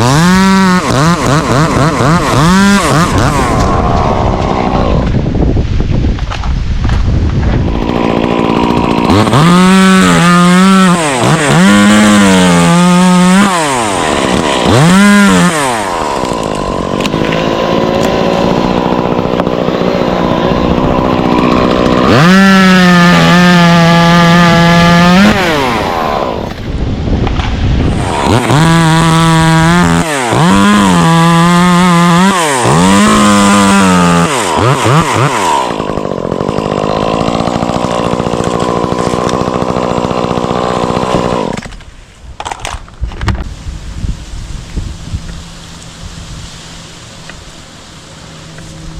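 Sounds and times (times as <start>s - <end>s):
chainsaw revving and idling: 0.0s - 5.3s, 7.3s - 41.8s, 44.4s - 48.9s.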